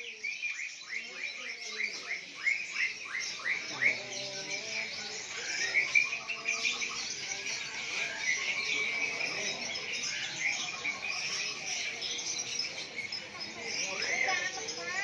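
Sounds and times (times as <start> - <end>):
caged songbirds chirping: 0.0 - 15.0.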